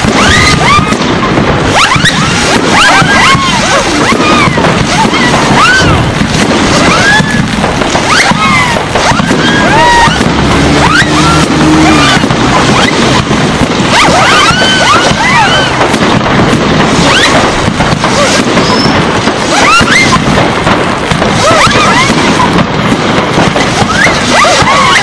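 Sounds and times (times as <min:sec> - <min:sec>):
fireworks bursting and crackling: 0:00.0 - 0:25.0
fireworks whistling chirps: 0:00.0 - 0:25.0.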